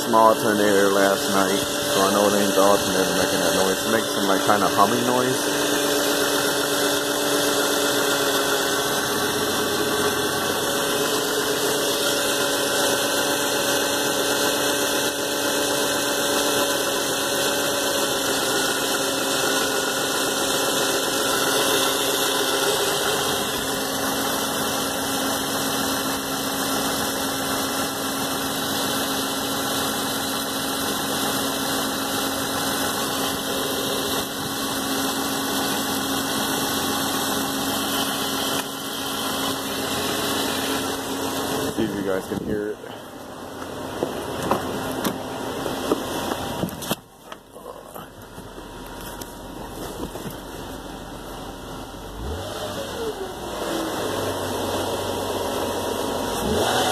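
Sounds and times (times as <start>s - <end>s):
car engine idling with humming whine: 0.0s - 56.9s.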